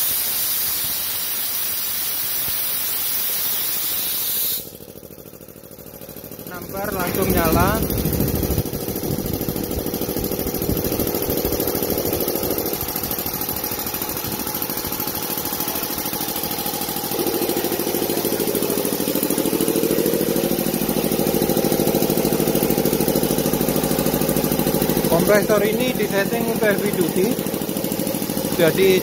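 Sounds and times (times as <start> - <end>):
air compressor pulsing: 0.0 - 29.0.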